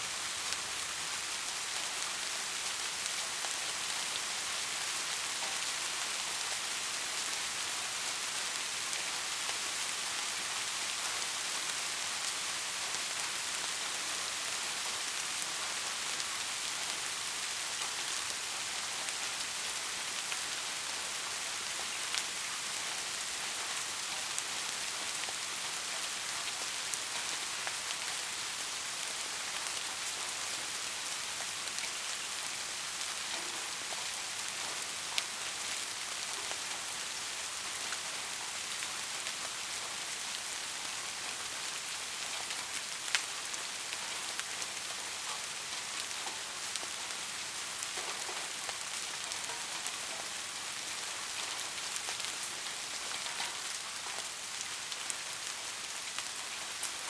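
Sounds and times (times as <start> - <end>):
soft rain hiss: 0.0 - 57.0.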